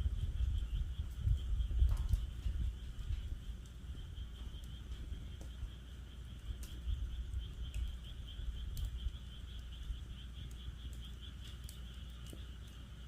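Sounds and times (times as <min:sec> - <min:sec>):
frogs calling in a trill: 0:00.0 - 0:13.0
wood fire crackling: 0:00.0 - 0:13.0.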